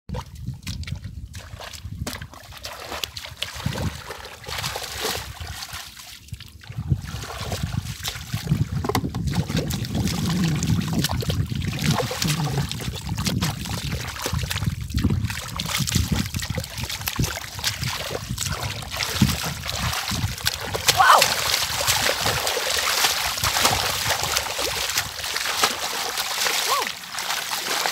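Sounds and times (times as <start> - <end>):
mud squelching and water splashing: 0.1 - 27.9.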